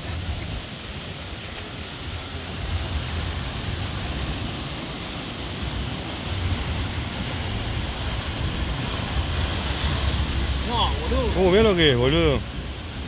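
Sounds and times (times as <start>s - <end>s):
wind rumble on microphone: 0.0s - 11.4s
waves breaking over rocks: 0.0s - 13.0s.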